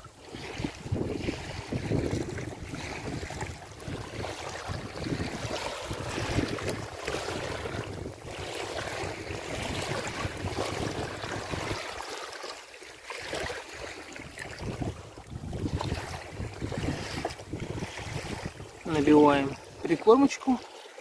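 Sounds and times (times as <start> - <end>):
wind buffeting microphone: 0.0 - 12.0, 14.2 - 20.0.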